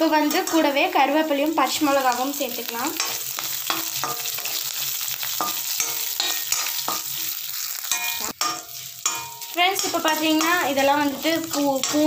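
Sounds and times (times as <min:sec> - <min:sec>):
metal spoon scraping a pan: 0:00.0 - 0:01.0, 0:02.0 - 0:12.0
oil sizzling in a pan: 0:00.0 - 0:12.0.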